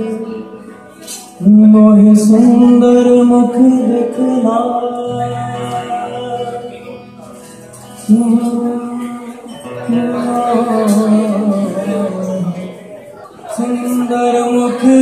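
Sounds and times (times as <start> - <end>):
acoustic guitar: 0.0 - 15.0
man singing folk song: 0.0 - 15.0.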